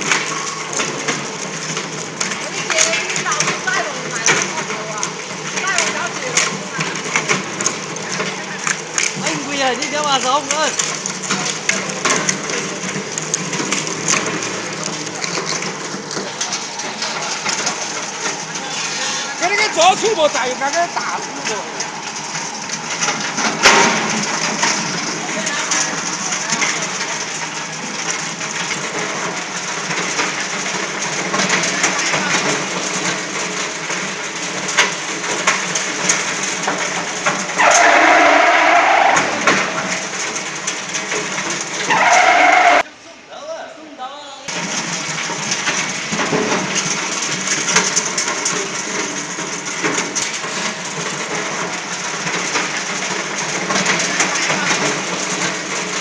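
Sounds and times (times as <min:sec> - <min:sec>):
shredder crackling clatter: 0:00.0 - 0:42.9, 0:44.5 - 0:56.0.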